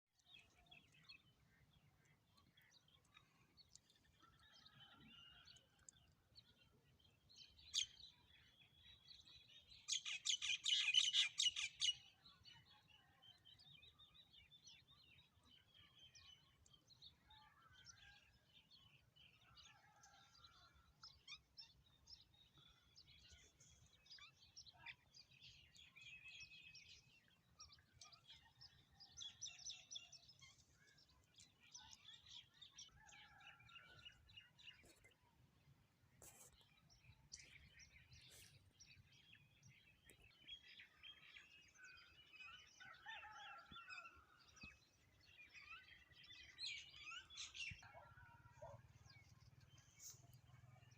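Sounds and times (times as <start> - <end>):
wild birds chirping: 0.2 - 11.9, 14.0 - 50.9.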